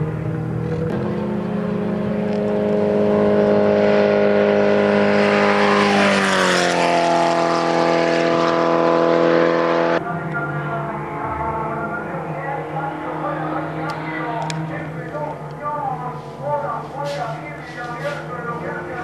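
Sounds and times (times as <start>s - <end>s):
race car engine passing by: 0.0s - 19.0s.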